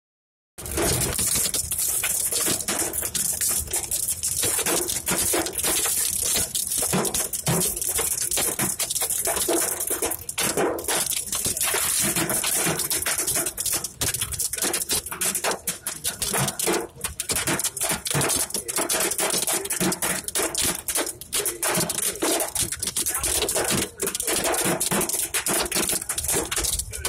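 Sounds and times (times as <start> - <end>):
hailstones clattering: 0.6 - 27.0.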